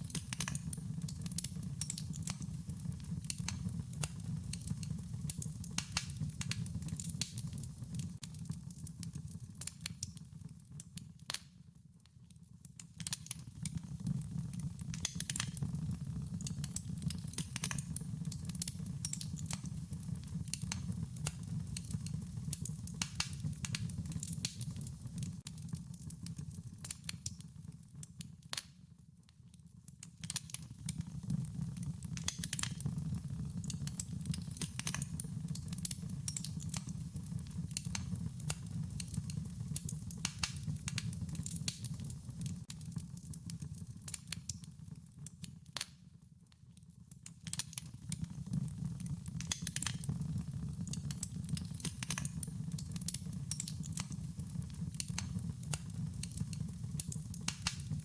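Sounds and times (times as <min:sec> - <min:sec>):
wood fire crackling: 0:00.0 - 0:11.8, 0:12.6 - 0:46.0, 0:47.0 - 0:58.0.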